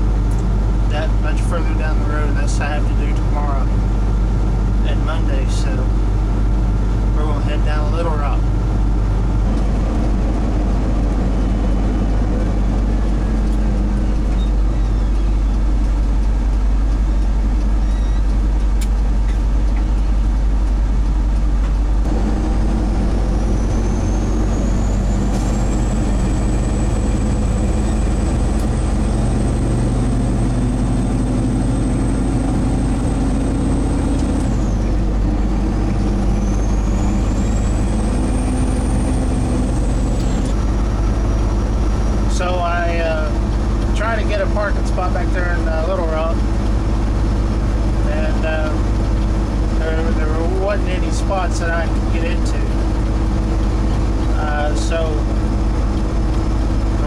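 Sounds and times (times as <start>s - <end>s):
high whine: 0.0s - 57.0s
truck diesel engine drone: 0.0s - 57.0s.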